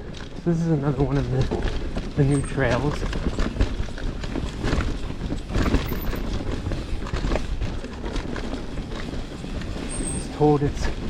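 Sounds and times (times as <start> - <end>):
bike rattling over bumps: 0.0 - 11.0
bike tyres rumbling on dirt: 0.0 - 11.0.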